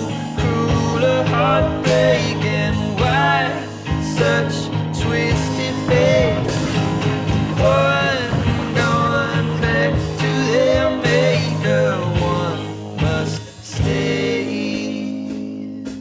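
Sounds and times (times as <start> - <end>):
guitar rock song: 0.0 - 16.0.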